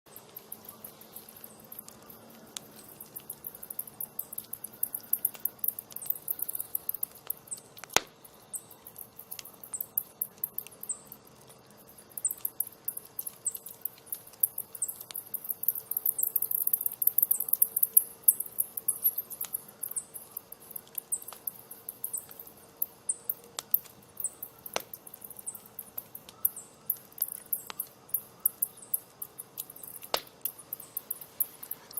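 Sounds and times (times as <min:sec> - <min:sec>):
campfire crackling and popping: 0:00.1 - 0:31.9
crickets chirping: 0:00.1 - 0:31.9.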